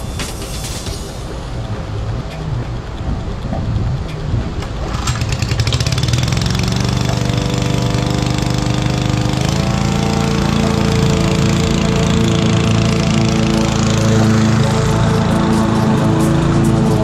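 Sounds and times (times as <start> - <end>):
lawn mower engine running: 1.4 - 17.0.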